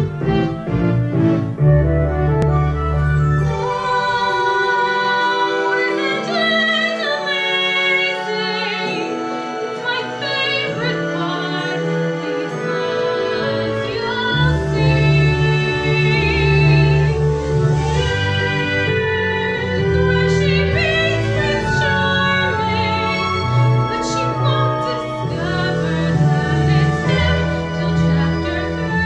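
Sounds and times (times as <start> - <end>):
keyboard accompaniment: 0.0 - 29.0
woman singing operatically: 3.4 - 29.0.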